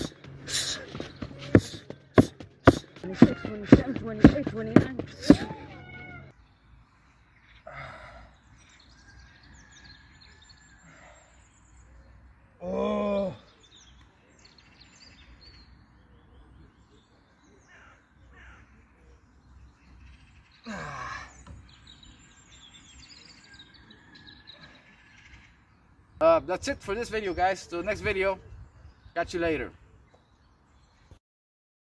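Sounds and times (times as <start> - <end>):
songbirds chirping: 0.0 - 31.2.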